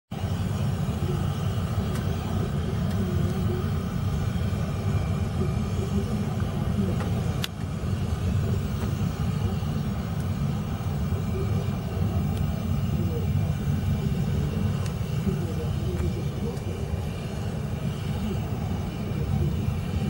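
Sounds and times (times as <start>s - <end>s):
steady low rumble: 0.1s - 20.0s.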